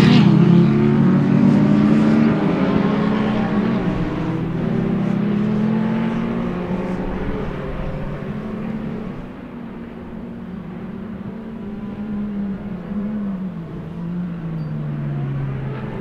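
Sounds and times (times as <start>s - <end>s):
race car engines: 0.0s - 16.0s.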